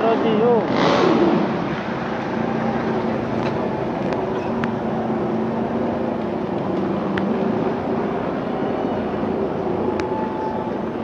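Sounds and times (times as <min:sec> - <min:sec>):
racing motorcycle engines droning: 0:00.0 - 0:11.0.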